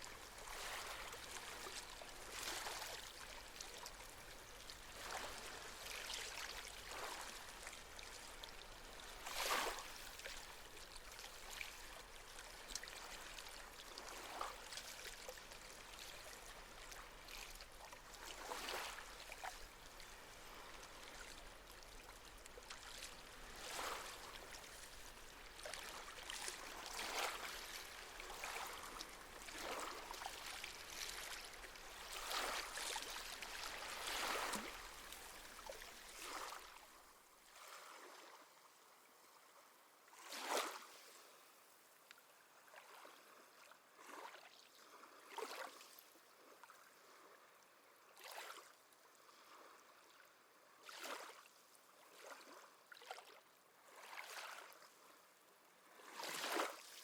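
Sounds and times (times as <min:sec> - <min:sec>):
sea waves lapping at shore: 0:00.0 - 0:57.0.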